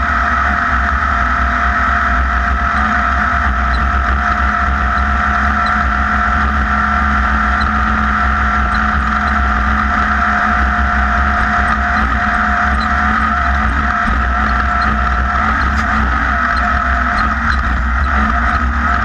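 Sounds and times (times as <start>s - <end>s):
race buggy engine running hard: 0.0s - 19.0s.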